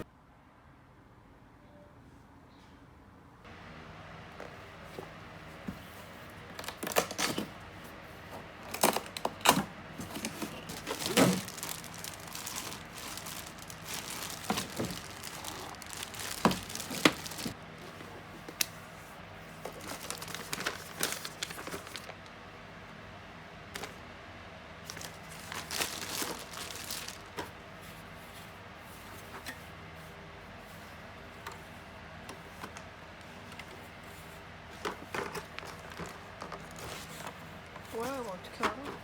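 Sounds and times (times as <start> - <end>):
faint steady hum: 0.0 - 39.0
crinkling and rustling: 4.3 - 22.4, 23.8 - 24.0, 24.8 - 39.0.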